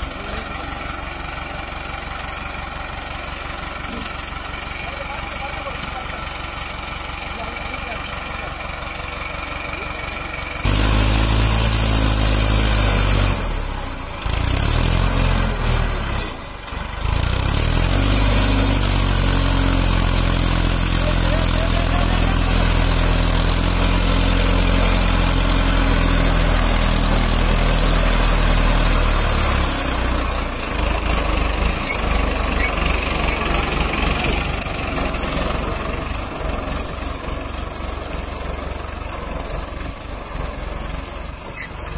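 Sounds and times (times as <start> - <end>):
tractor diesel engine under load: 0.0 - 41.9
tractor moving: 0.0 - 41.9.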